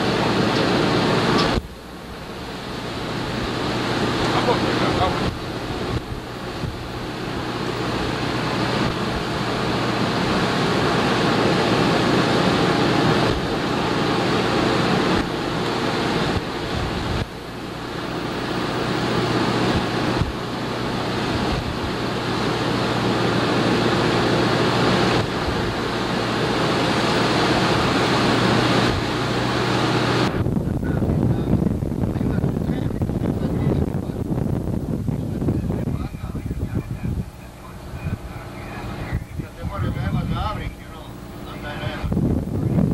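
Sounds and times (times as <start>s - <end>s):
low boat engine hum: 0.0s - 42.9s
wake rushing: 0.0s - 42.9s
wind buffeting microphone: 0.0s - 42.9s.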